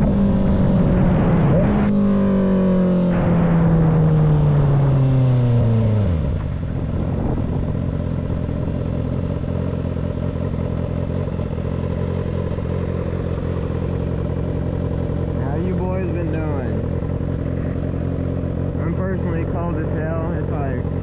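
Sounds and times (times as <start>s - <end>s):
motorcycle engine through loud exhaust: 0.0s - 21.0s.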